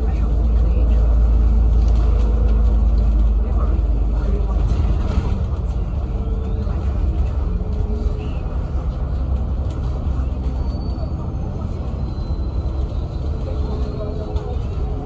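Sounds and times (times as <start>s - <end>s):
bus engine rumble from inside: 0.0s - 15.0s.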